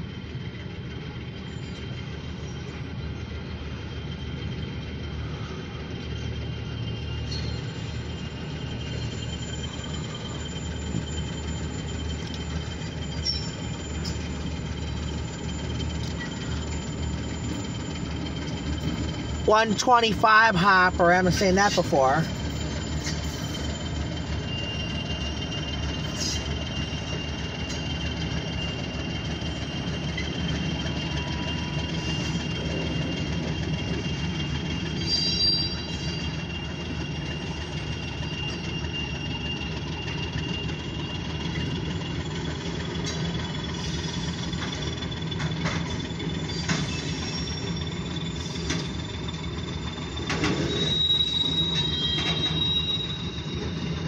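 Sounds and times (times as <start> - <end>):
freight train wheels rumbling: 0.0 - 54.0
high-pitched wheel squeal: 6.4 - 20.1, 20.7 - 54.0.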